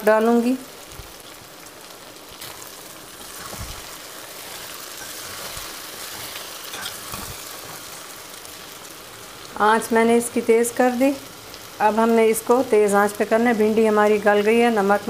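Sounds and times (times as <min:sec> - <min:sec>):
okra sizzling in a pan: 0:00.0 - 0:15.0.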